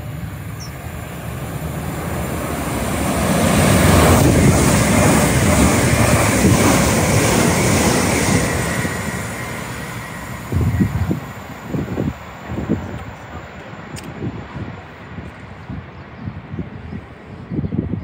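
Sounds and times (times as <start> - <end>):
train wheels rumbling on rail: 0.0 - 17.1.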